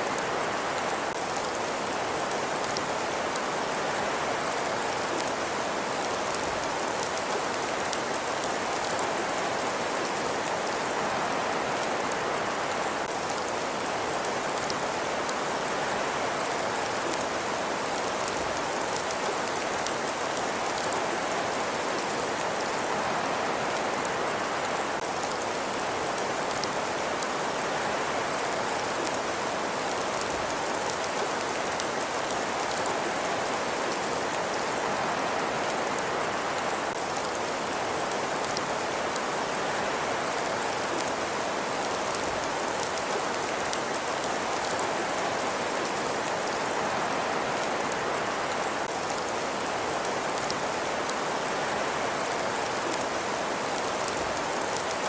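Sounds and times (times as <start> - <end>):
steady rain-like hiss: 0.0 - 55.0.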